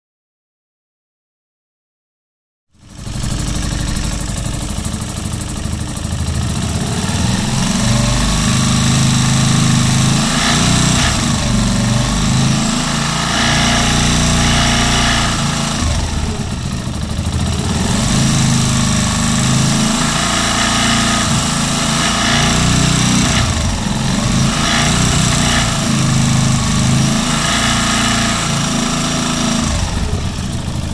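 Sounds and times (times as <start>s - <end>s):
motorcycle engine running: 2.8s - 30.9s.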